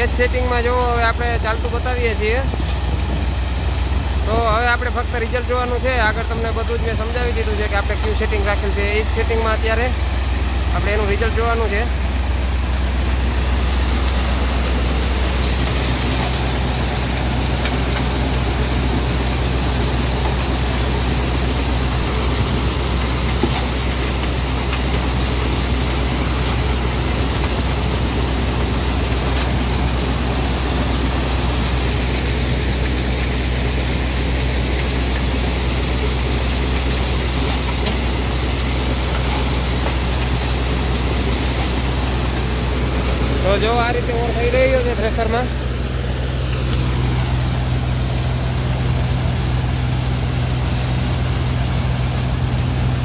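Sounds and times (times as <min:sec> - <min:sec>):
thresher running: 0:00.0 - 0:53.0.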